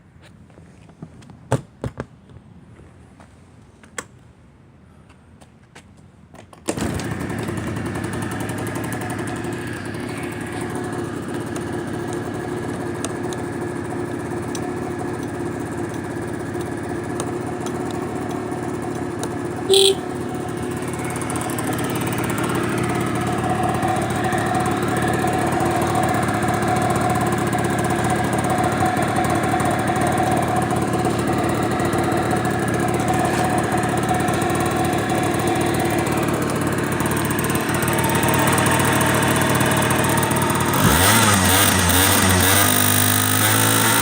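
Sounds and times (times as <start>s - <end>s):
scooter engine idling: 6.8s - 44.0s.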